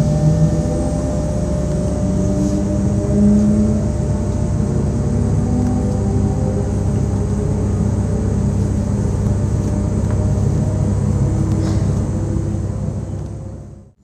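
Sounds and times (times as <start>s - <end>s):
electric train rumbling: 0.0s - 14.0s
faint humming tones: 0.0s - 14.0s.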